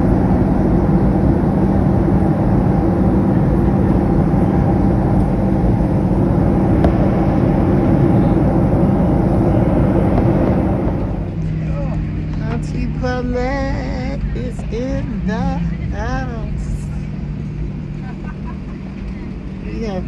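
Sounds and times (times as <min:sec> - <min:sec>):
constant low hum: 0:00.0 - 0:20.0
jet airliner cabin noise: 0:00.0 - 0:20.0.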